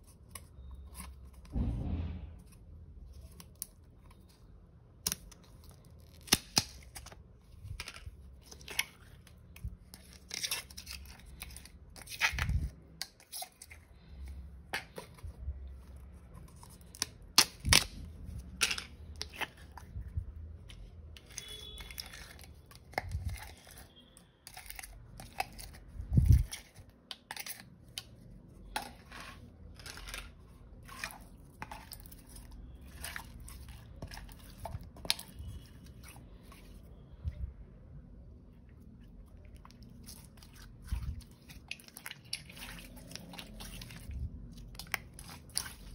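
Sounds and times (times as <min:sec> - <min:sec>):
slime squelching: 0:00.0 - 0:45.9.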